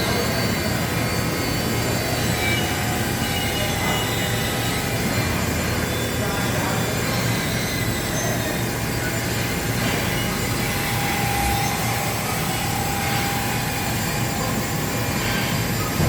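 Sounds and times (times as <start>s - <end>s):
machine whirring and hissing: 0.0s - 16.0s
thin high whine: 0.0s - 16.0s.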